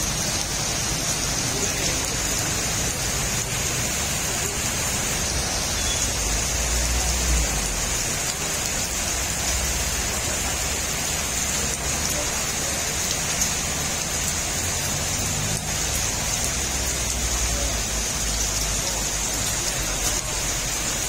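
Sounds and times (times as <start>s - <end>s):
heavy rain on paving and vehicles: 0.0s - 21.0s.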